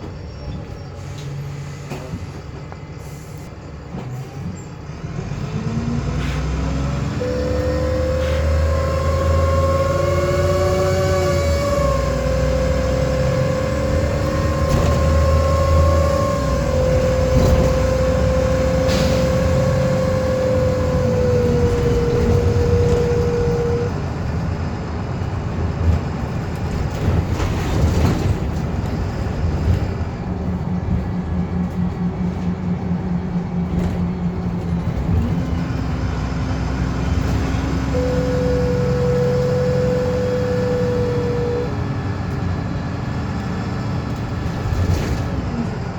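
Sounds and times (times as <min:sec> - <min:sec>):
bus engine: 0:00.0 - 0:45.9
bus whirring whine: 0:00.0 - 0:45.9
road noise: 0:00.0 - 0:45.9.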